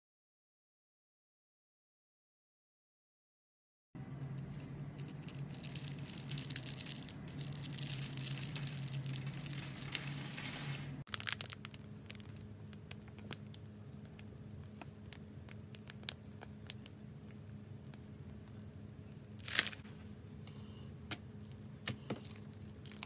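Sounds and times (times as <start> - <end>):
faint steady hum: 4.0 - 23.0.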